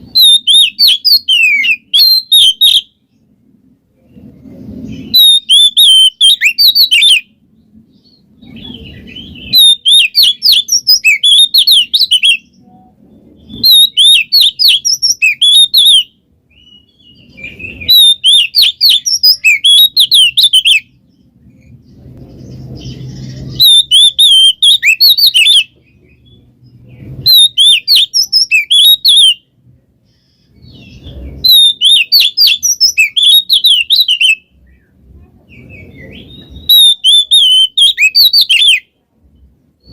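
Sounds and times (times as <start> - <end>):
bird singing rapid chattering notes: 0.1 - 2.9, 4.9 - 7.3, 7.9 - 12.7, 13.4 - 29.4, 30.4 - 34.9, 35.5 - 38.8.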